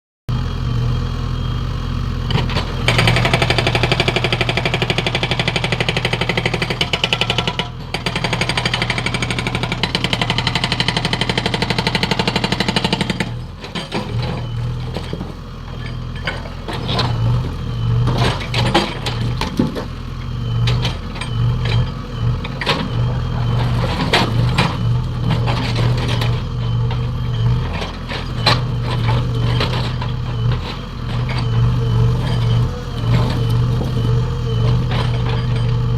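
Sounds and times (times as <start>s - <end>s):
engine running: 0.3s - 35.9s
hydraulic breaker hammering: 2.3s - 35.9s.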